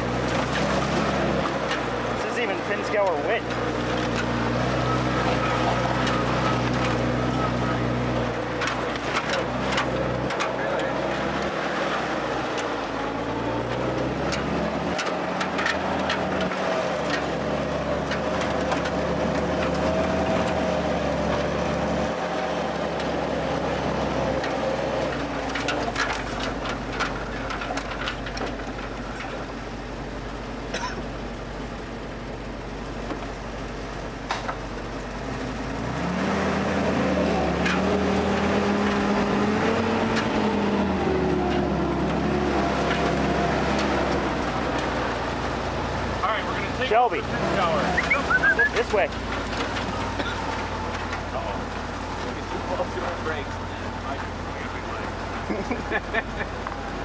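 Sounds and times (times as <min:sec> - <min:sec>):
knocks and rattles: 0:00.0 - 0:31.3, 0:32.9 - 0:57.0
car engine running at low speed: 0:00.0 - 0:57.0.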